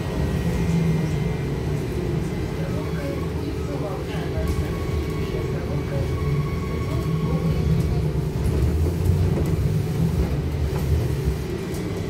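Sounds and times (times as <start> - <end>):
low rumble of tyres and body: 0.0 - 12.0.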